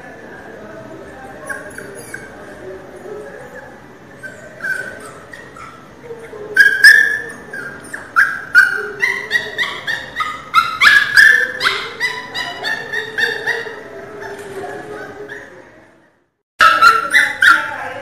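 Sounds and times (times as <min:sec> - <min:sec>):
puppy whimpering: 0:01.2 - 0:15.8, 0:16.6 - 0:17.8
puppy yelping: 0:01.3 - 0:02.5, 0:03.2 - 0:15.7, 0:16.6 - 0:17.9.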